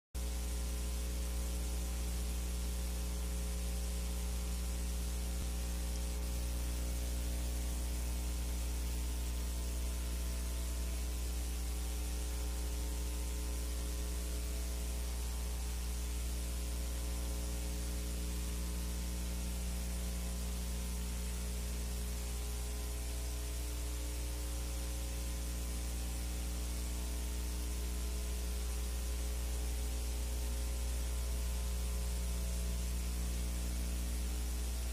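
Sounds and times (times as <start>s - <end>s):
electrical hum: 0.2s - 34.9s
hiss: 0.2s - 34.9s.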